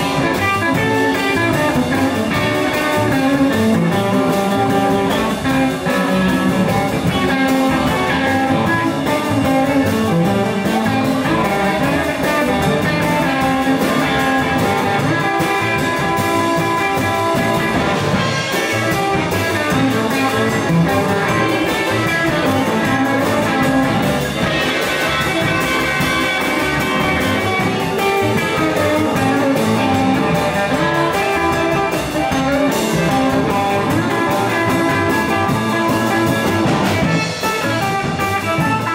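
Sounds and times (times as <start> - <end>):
electric blues band playing: 0.0 - 38.9.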